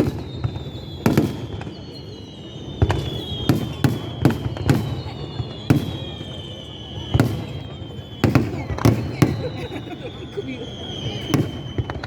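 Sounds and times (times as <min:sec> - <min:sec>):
fireworks bursting: 0:00.0 - 0:12.0
high falling whistle: 0:00.0 - 0:12.0.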